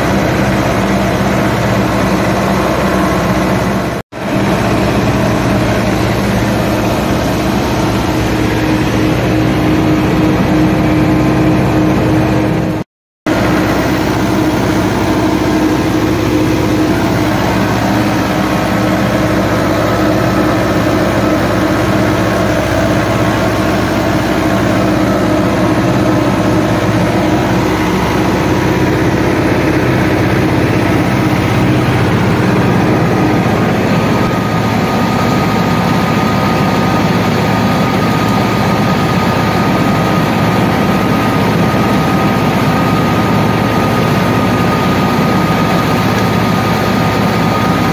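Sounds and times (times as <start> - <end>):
thin steady whine: 0.0 - 47.9
tractor engine running: 0.0 - 47.9.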